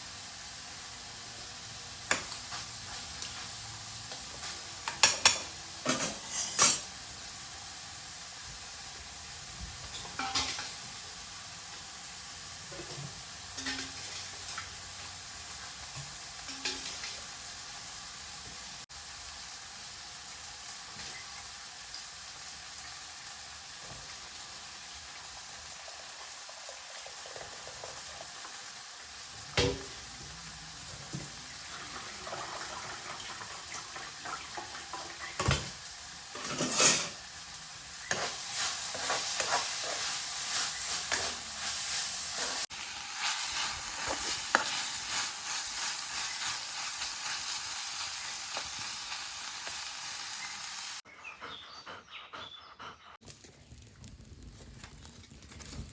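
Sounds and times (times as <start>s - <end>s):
food sizzling in a pan: 0.0s - 51.1s.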